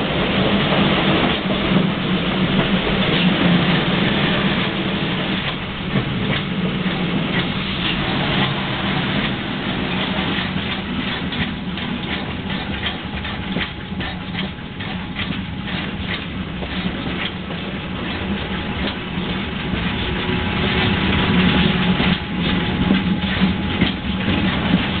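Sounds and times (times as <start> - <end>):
steam train running: 0.0 - 25.0
wheels clicking over rails: 0.0 - 25.0.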